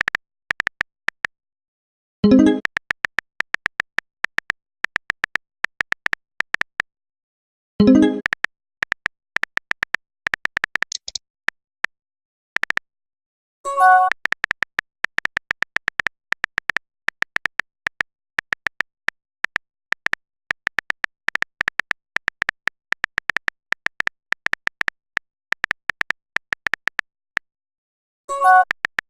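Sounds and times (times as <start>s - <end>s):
phone keyboard clicks with beeps: 0.0s - 1.3s, 2.3s - 6.9s, 7.8s - 11.2s, 12.6s - 12.8s, 13.7s - 27.1s, 28.3s - 29.0s.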